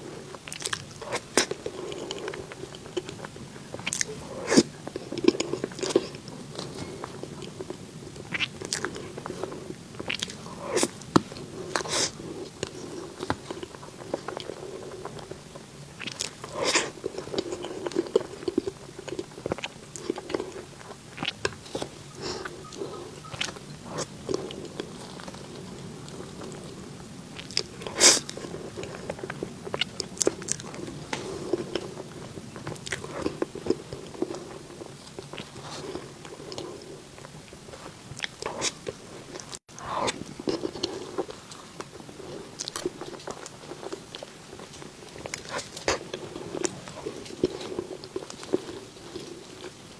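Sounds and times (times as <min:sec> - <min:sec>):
person chewing cake: 0:00.0 - 0:49.9.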